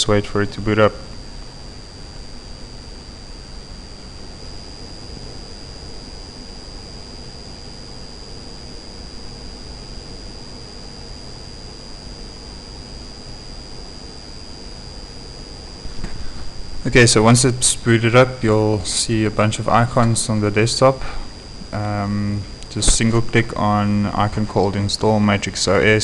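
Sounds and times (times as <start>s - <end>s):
faint low hum: 0.0s - 26.0s
high-pitched whine: 0.0s - 26.0s.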